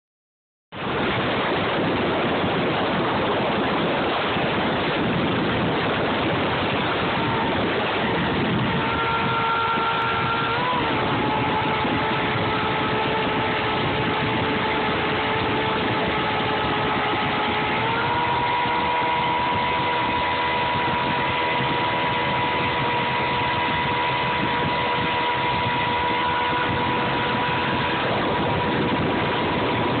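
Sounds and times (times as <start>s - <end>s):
outboard motor running: 0.7s - 30.0s
rush of wind and water: 0.7s - 30.0s.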